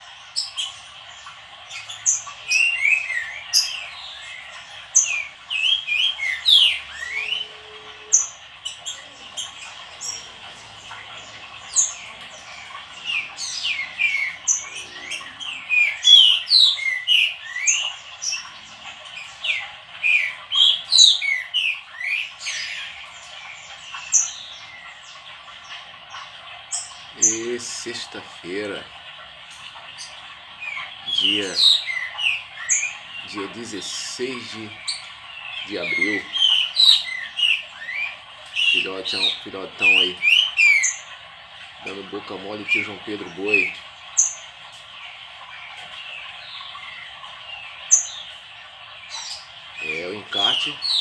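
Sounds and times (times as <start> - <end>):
songbirds chirping and singing: 0.0 - 51.0.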